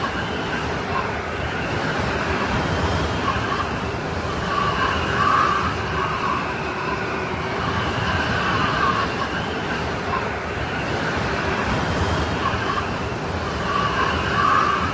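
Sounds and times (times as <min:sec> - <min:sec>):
snowstorm wind whistling: 0:00.0 - 0:14.9.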